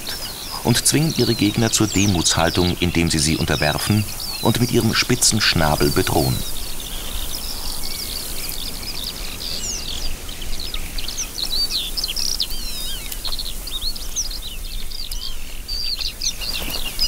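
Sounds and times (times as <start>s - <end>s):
birds chirping and whistling: 0.0s - 17.0s
low rumble of marsh ambience: 0.0s - 17.0s.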